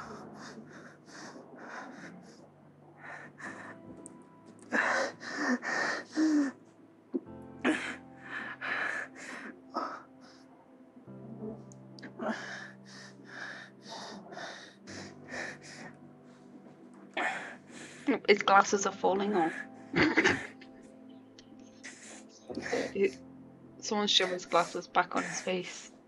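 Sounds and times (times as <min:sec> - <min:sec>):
soft background music: 0:00.0 - 0:26.0.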